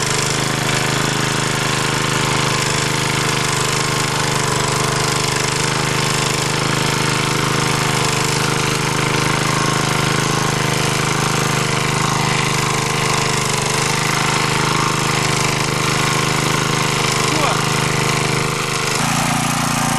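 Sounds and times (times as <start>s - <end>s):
tractor engine tilling soil: 0.0s - 19.9s.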